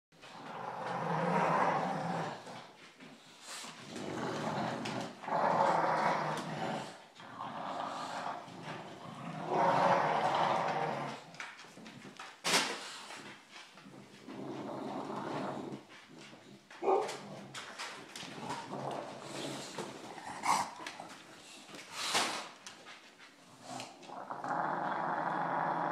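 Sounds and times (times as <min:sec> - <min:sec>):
dogs play-growling: 0:00.2 - 0:25.9.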